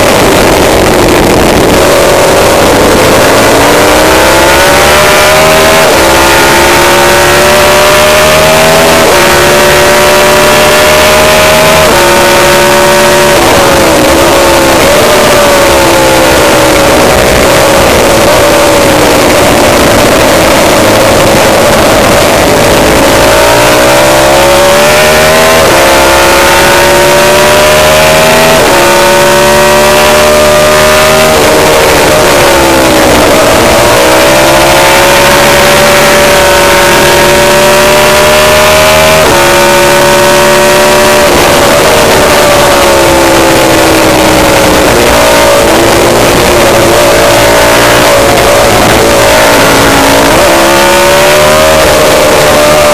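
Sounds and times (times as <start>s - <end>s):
racing motorcycle engine at full throttle: 0.0s - 52.9s.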